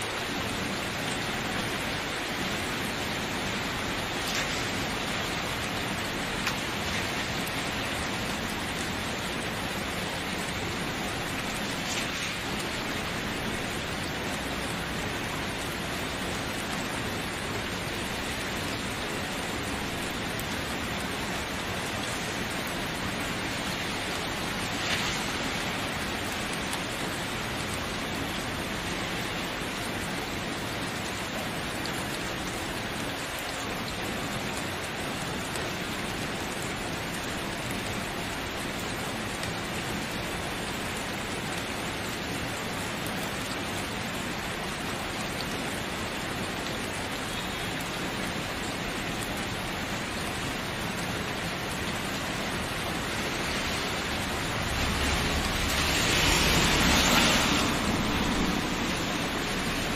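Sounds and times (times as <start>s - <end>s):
rain falling on surface: 0.0s - 59.9s.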